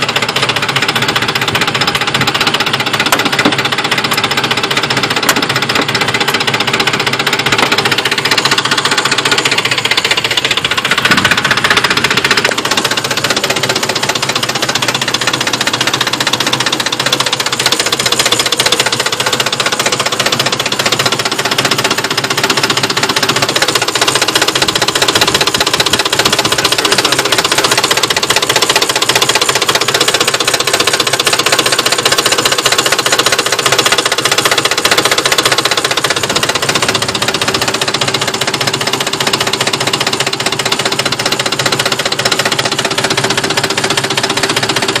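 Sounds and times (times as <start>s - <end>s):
engine idling with rapid knocking: 0.0s - 45.0s.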